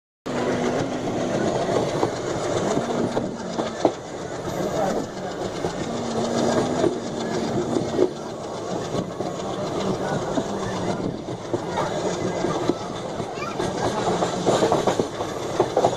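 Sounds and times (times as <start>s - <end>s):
train rumbling: 0.3s - 15.9s
wheels clacking over rails: 0.3s - 15.9s.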